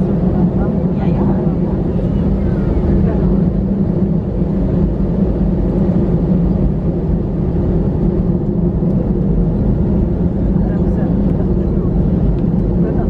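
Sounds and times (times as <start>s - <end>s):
low rumble inside airplane cabin: 0.0s - 13.0s.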